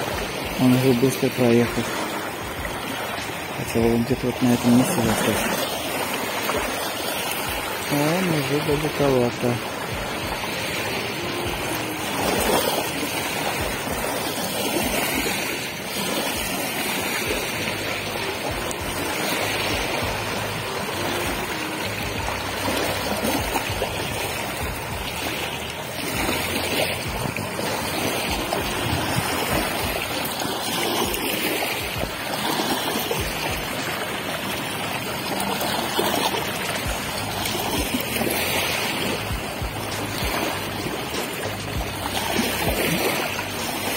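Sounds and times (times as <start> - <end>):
waves lapping on pebble shore: 0.0 - 43.9.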